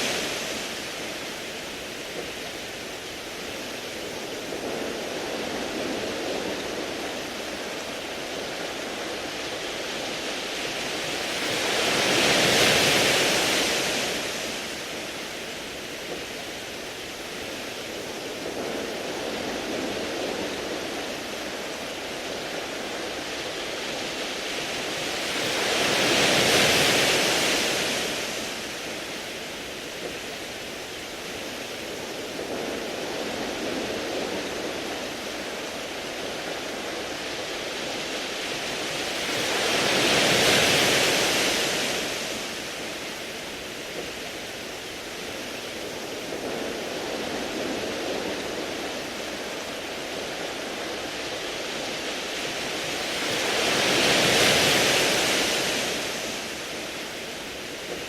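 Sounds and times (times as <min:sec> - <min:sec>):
waves washing over pebbles: 0:00.0 - 0:58.0.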